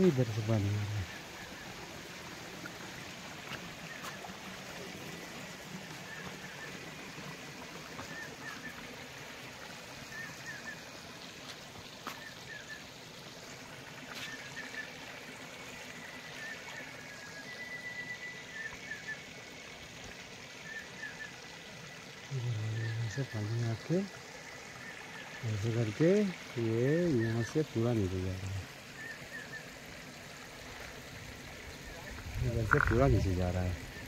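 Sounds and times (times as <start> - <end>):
stream trickling over rocks: 0.0 - 34.0.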